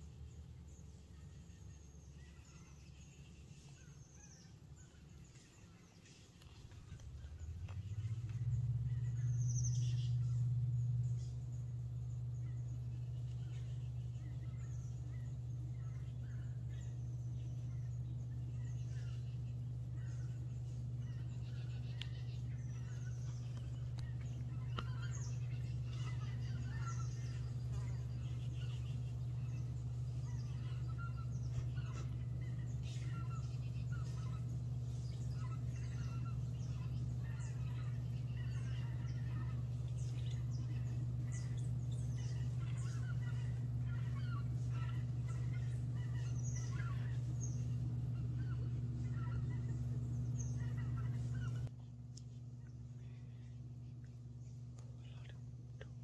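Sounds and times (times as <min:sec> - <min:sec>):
bird calls: 0:00.0 - 0:56.0
steady low hum: 0:00.0 - 0:56.0.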